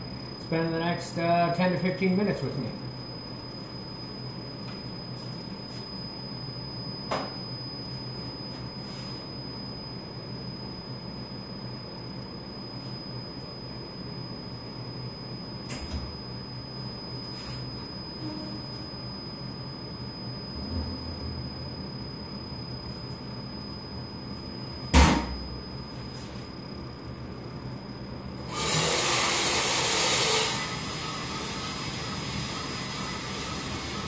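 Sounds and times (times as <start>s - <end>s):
coffee roaster drum and fans humming: 0.0s - 34.0s.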